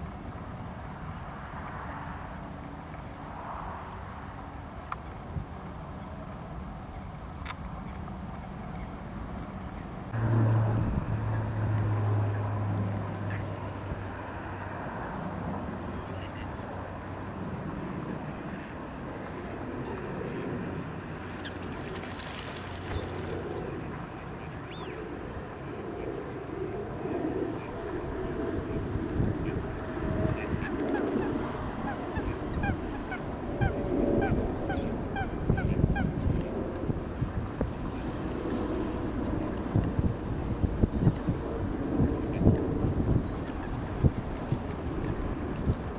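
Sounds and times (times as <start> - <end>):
low engine hum: 0.0 - 45.9
outdoor background noise: 0.0 - 45.9
wind rumble on microphone: 0.0 - 45.9.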